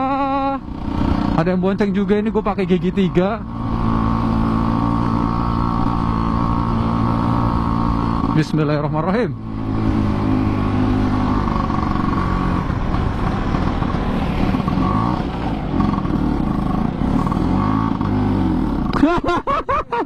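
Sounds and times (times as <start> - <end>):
scooter engine revving: 0.0 - 19.8.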